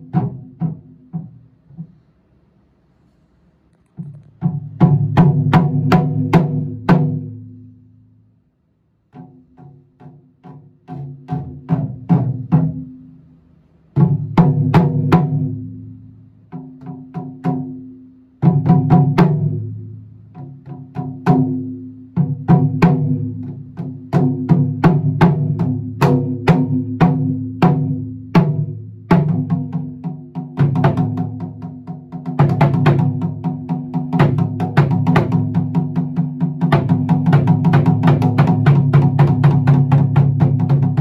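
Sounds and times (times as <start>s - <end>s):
taiko drumming: 0.0s - 1.9s, 4.4s - 7.5s, 9.1s - 13.0s, 13.9s - 15.8s, 16.5s - 41.0s.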